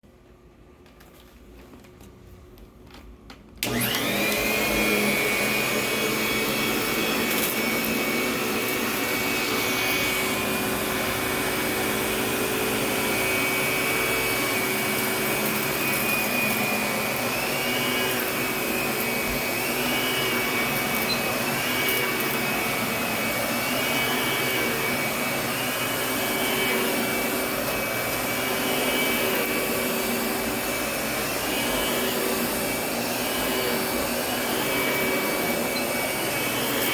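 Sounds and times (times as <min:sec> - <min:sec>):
vacuum cleaner motor whine: 0:03.6 - 0:36.9.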